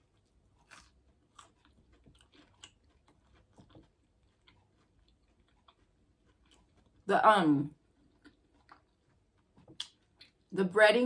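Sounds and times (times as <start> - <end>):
chewing crunches: 0.0 - 7.1, 7.7 - 10.6.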